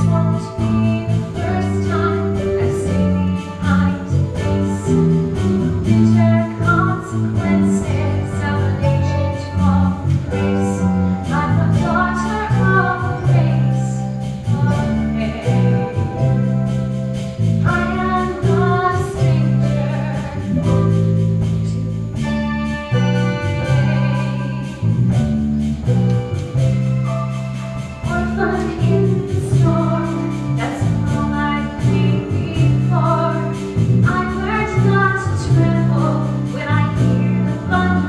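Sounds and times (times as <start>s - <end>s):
woman singing a ballad: 0.0s - 16.5s, 17.6s - 25.0s, 28.0s - 38.0s
small band playing: 0.0s - 38.0s.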